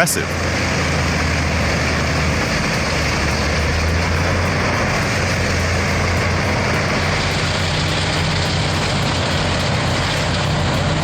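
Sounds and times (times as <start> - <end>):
heavy machinery engine droning: 0.0 - 11.0.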